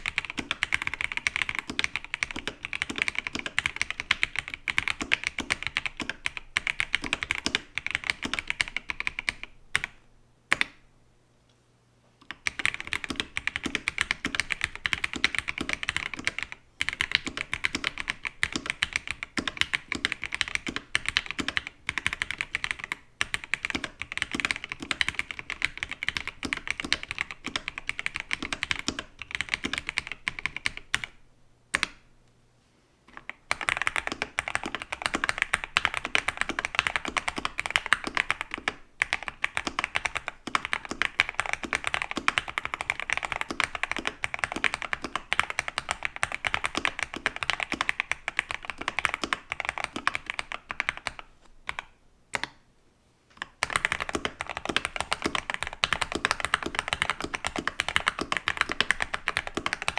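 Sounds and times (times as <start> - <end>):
mechanical keyboard typing: 0.0 - 10.7, 12.3 - 32.0, 33.1 - 52.6, 53.4 - 59.9.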